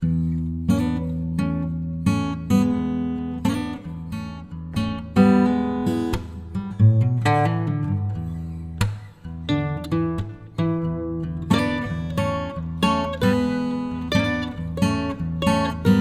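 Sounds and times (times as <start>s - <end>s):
acoustic guitar plucked and strummed: 0.0s - 16.0s.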